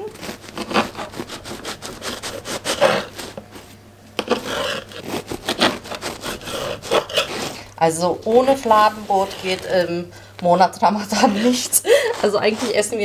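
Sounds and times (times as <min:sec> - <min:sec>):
knife sawing through crusty bread: 0:00.0 - 0:07.7, 0:08.3 - 0:13.0.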